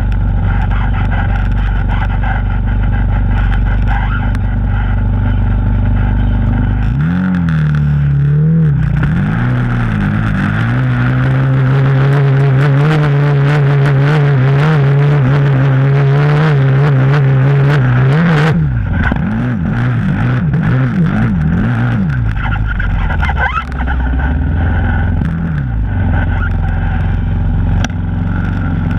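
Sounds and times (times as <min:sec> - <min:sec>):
quad engine revving: 0:00.0 - 0:28.9.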